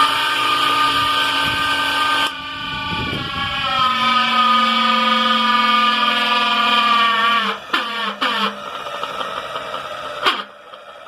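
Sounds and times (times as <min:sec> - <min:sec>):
electric motor whining: 0:00.0 - 0:08.9
low hum: 0:00.0 - 0:10.8.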